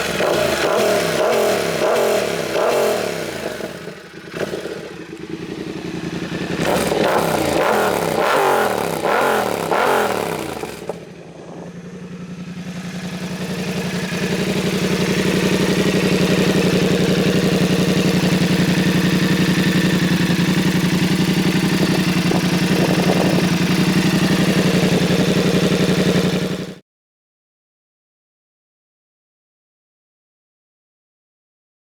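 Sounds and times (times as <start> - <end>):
motorcycle engine revving: 0.0 - 26.8.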